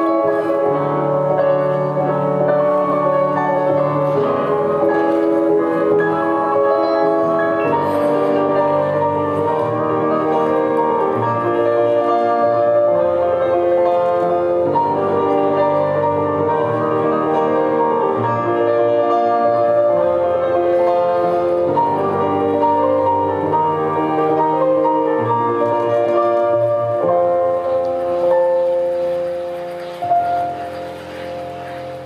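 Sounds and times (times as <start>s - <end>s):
slow instrumental melody: 0.0s - 32.0s.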